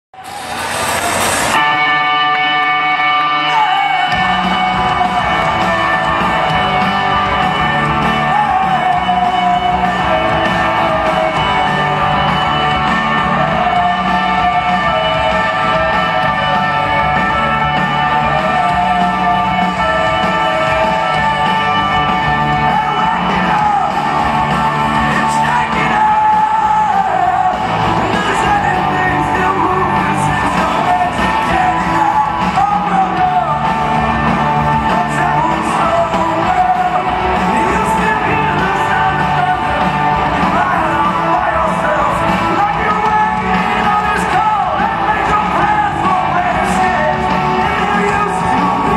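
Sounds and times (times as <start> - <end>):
rock band playing: 0.2 - 48.9
person singing: 1.5 - 48.9.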